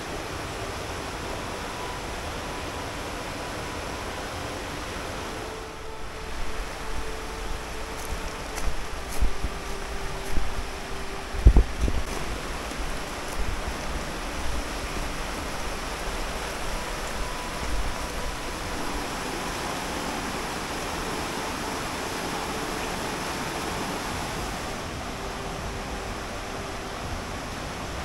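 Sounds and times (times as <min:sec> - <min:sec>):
river water running over rocks: 0:00.0 - 0:28.0.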